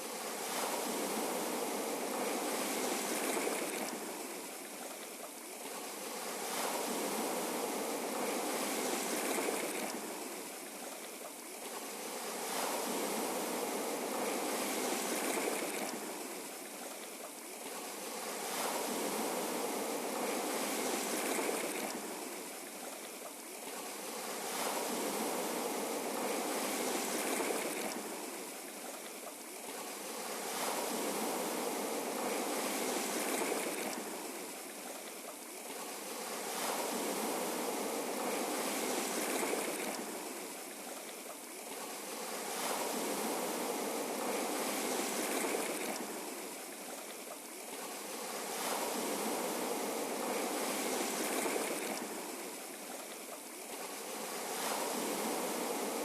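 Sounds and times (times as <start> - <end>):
ocean waves washing on shore: 0.0 - 56.0.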